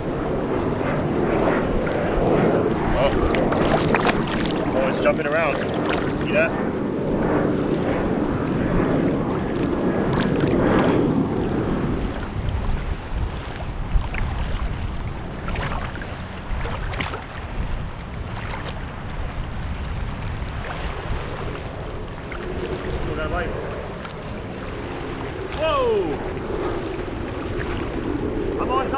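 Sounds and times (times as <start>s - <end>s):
wind on microphone: 0.0s - 28.9s
seawater sloshing and splashing: 0.4s - 6.5s, 7.5s - 28.6s.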